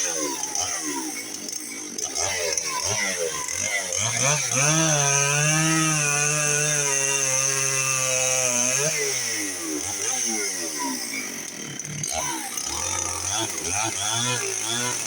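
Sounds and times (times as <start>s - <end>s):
chainsaw cutting at full throttle: 0.0s - 15.0s.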